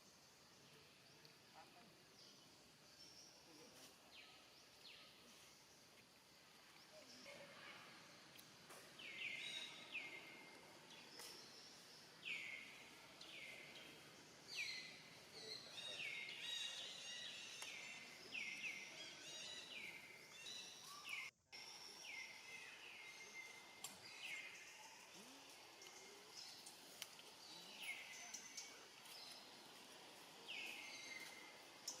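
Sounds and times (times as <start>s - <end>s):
low background hiss: 0.0s - 32.0s.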